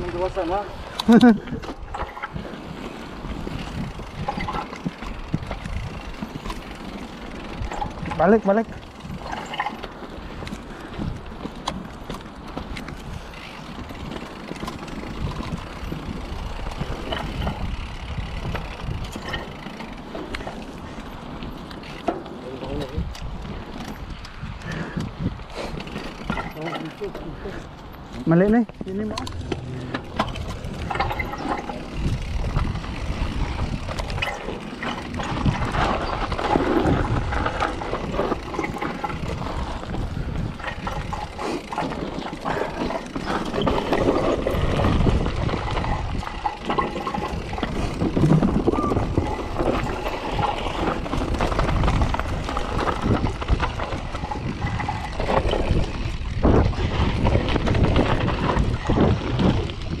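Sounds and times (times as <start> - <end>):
wind rushing over microphone: 0.0 - 11.8, 12.5 - 21.6, 22.5 - 60.0
bike rattling and clicking: 0.0 - 60.0
bike tyre noise: 0.0 - 60.0.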